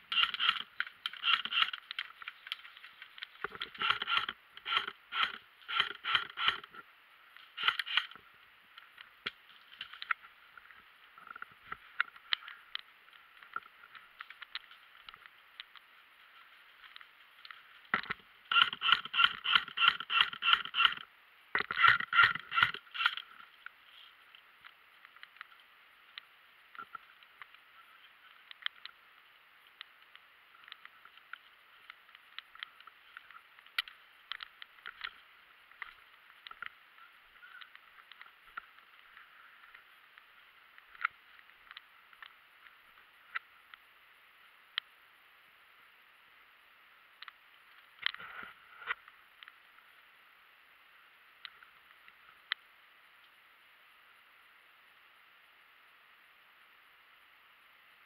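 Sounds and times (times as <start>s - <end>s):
faint clicks and rustles: 0.0s - 57.4s
steady hiss: 0.0s - 58.0s.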